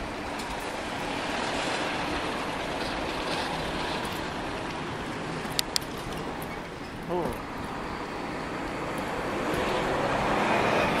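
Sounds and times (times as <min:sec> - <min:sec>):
bicycle tyres on road: 0:00.0 - 0:11.0.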